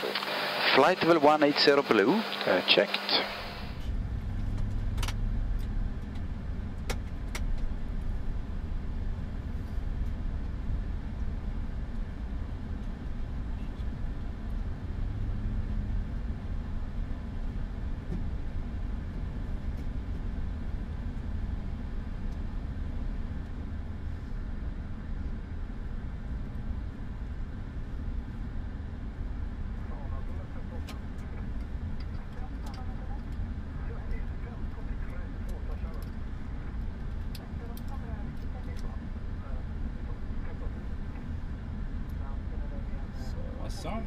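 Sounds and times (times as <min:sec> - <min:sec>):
low rumble and air hiss: 0:00.0 - 0:44.0.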